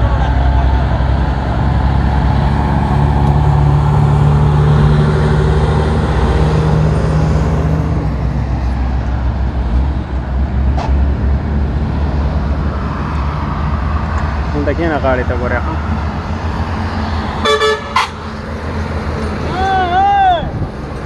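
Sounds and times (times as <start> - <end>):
diesel trucks passing: 0.0 - 21.0.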